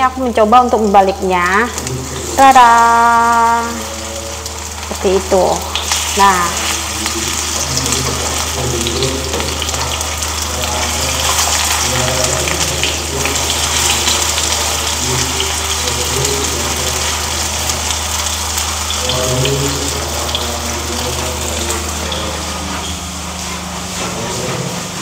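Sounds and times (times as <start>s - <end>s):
fritters sizzling in oil: 0.0s - 25.0s.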